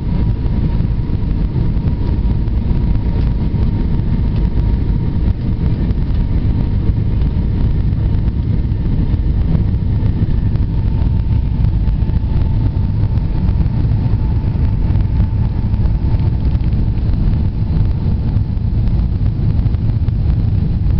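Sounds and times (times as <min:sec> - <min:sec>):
faint steady whine: 0:00.0 - 0:20.9
low rumble of engines and airflow: 0:00.0 - 0:20.9.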